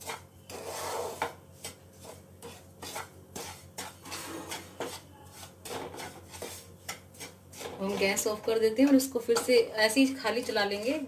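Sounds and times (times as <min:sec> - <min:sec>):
wooden spatula scraping pan: 0:00.0 - 0:09.7.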